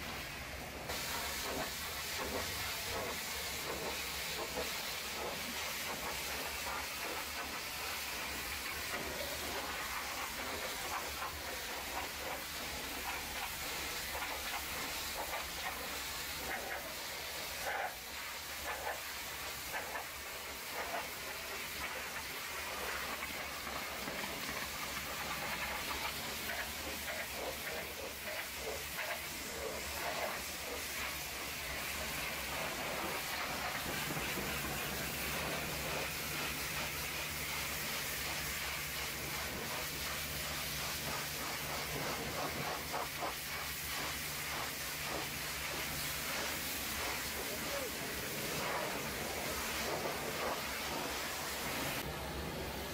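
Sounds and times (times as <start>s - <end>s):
pressure washer water spray hiss: 0.0s - 52.9s.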